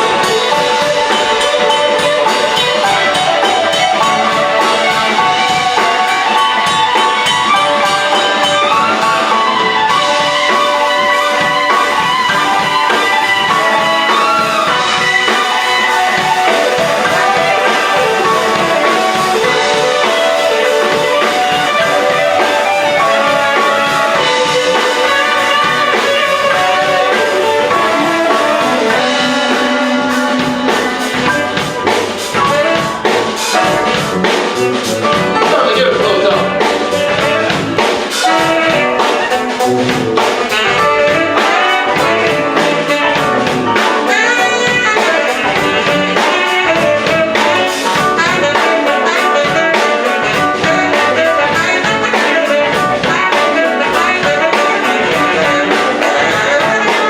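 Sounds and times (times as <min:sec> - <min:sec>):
bass: 0:00.0 - 0:57.0
drums: 0:00.0 - 0:57.0
electric guitar: 0:00.0 - 0:57.0
horn section: 0:00.0 - 0:57.0.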